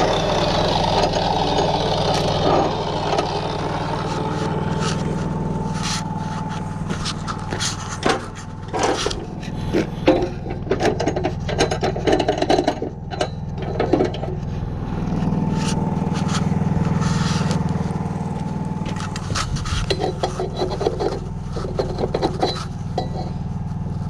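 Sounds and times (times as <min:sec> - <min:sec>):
clattering and scraping: 0:00.0 - 0:24.0
engine droning: 0:00.0 - 0:24.0.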